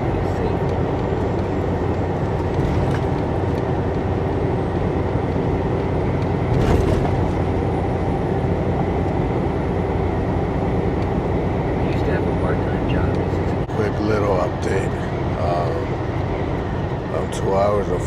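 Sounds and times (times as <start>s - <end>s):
truck cab engine and road rumble: 0.0s - 18.0s.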